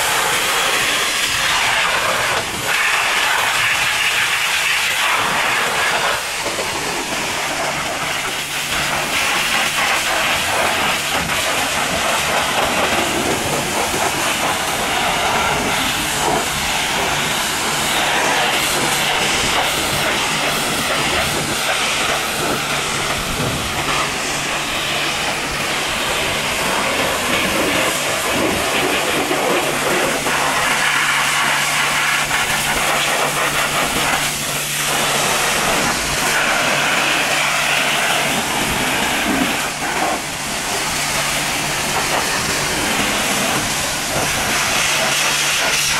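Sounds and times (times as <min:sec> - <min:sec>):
pressure washer jet spraying: 0:00.0 - 0:45.9.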